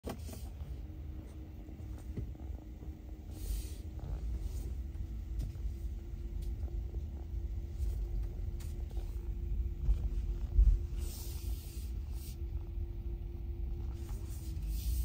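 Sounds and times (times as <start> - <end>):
faint steady hum: 0.0 - 15.0
low rumbling car cabin noise: 0.0 - 15.0.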